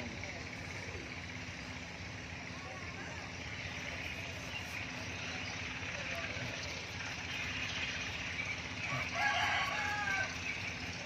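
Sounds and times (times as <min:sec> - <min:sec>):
faint indistinct voices: 0:00.0 - 0:11.0
steady background hum: 0:00.0 - 0:11.0.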